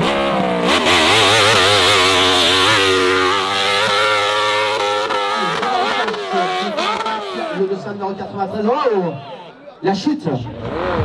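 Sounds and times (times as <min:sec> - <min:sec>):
racing motorcycle engine revving: 0:00.0 - 0:08.3, 0:10.4 - 0:11.0.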